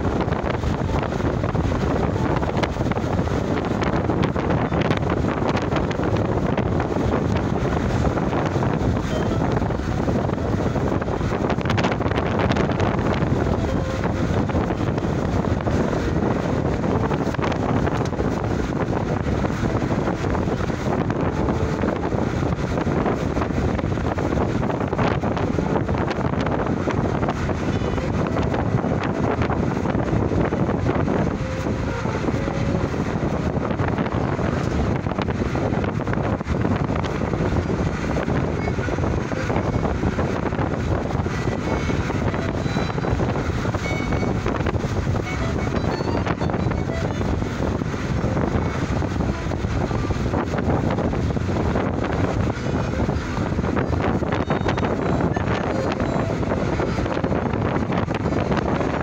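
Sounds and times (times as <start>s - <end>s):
moving vehicle running noise: 0.0s - 59.0s
wind buffeting microphone: 0.0s - 59.0s.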